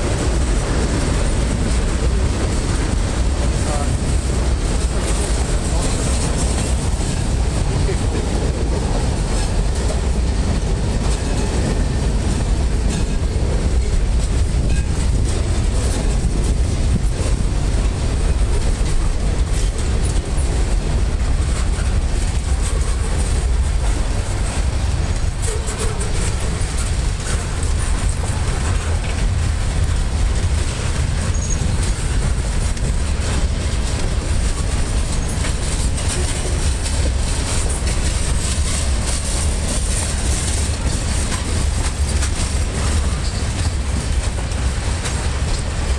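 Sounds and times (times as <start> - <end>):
train wheels rumbling on rails: 0.0 - 45.9
wheels clicking on rails: 0.0 - 45.9.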